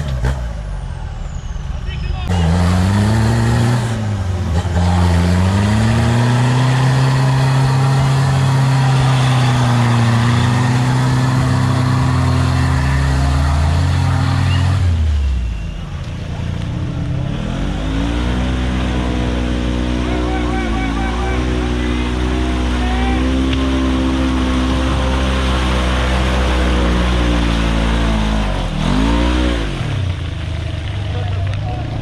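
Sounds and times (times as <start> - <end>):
off-road engine revving: 0.0 - 32.0.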